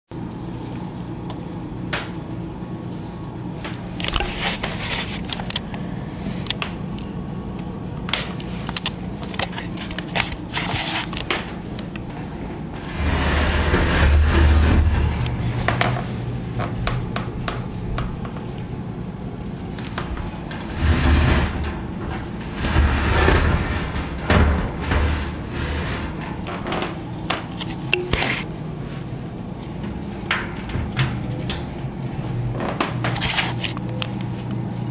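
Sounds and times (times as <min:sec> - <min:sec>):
box fan motor hum: 0:00.2 - 0:34.9
airflow buffeting microphone: 0:02.5 - 0:34.9.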